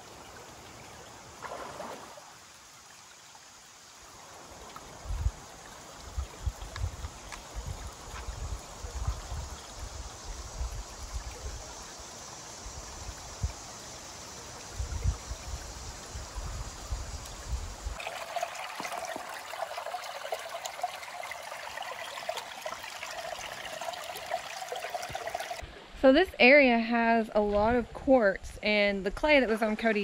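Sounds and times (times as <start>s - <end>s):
creek trickling over stones: 0.0s - 25.8s.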